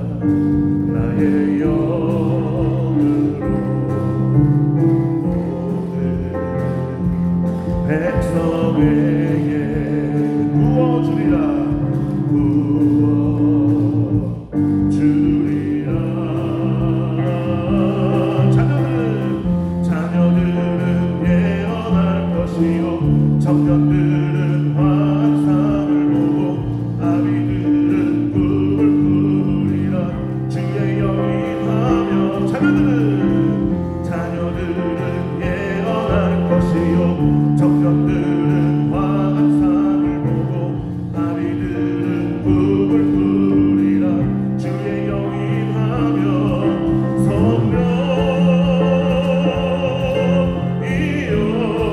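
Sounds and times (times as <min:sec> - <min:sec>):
band playing praise song: 0:00.0 - 0:51.9
people singing: 0:00.0 - 0:51.9.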